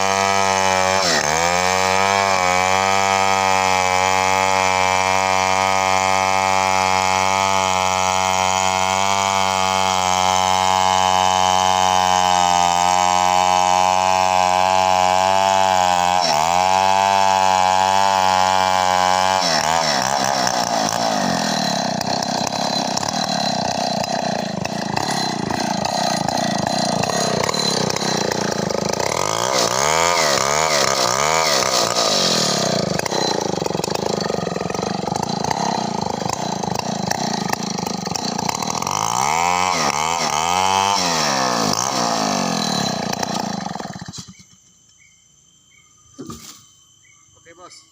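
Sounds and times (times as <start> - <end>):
chainsaw cutting wood: 0.0 - 44.8, 46.2 - 46.7.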